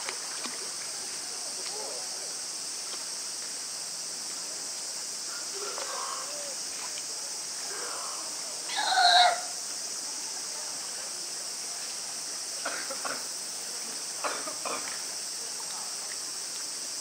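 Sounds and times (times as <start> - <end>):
high insect hiss: 0.0 - 17.0.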